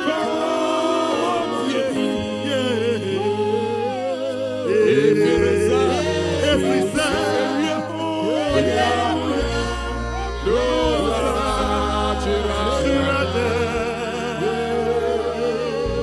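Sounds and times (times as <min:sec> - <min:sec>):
gospel worship singing: 0:00.0 - 0:16.0
sustained low keyboard notes: 0:00.0 - 0:16.0.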